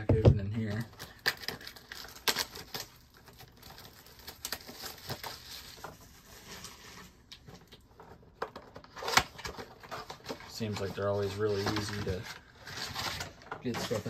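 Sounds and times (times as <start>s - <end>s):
card packaging crinkling: 0.6s - 14.0s.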